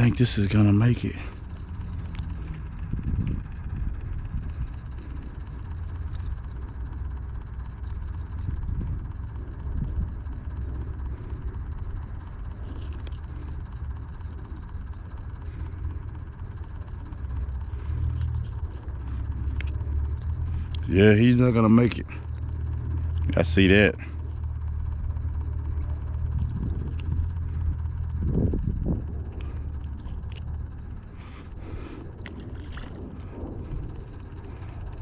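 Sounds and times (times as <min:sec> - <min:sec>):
low steady rumble: 0:00.0 - 0:35.0.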